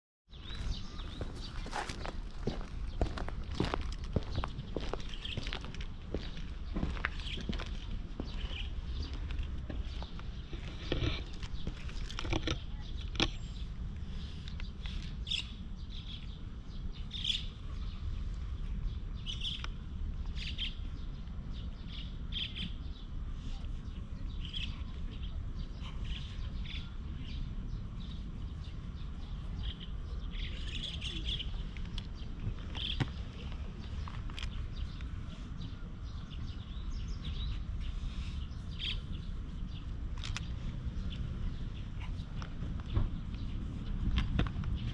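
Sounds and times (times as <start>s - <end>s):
small birds chirping: 0.3s - 44.9s
steady low rumble: 0.3s - 44.9s.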